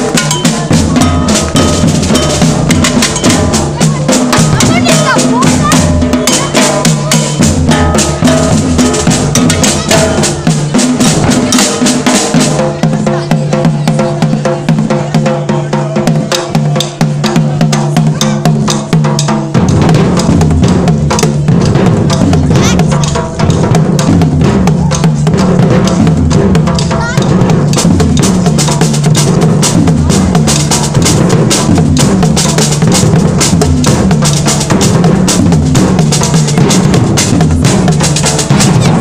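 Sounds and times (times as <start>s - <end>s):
marching bass drums: 0.0s - 39.0s
smaller drums played with sticks: 0.0s - 39.0s.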